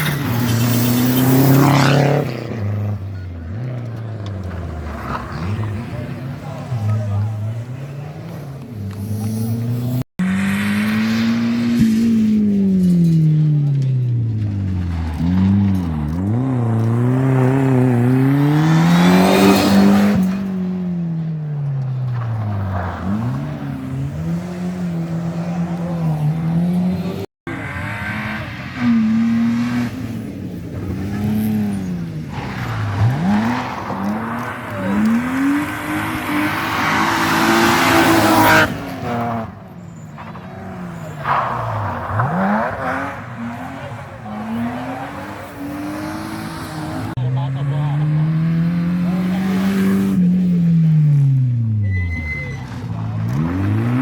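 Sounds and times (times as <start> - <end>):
cars braking: 0.0 - 54.0
rally car engines revving: 0.0 - 54.0.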